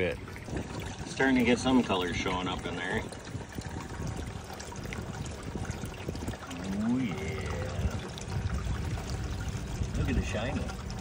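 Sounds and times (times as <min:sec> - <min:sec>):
water pouring and trickling: 0:00.0 - 0:11.0.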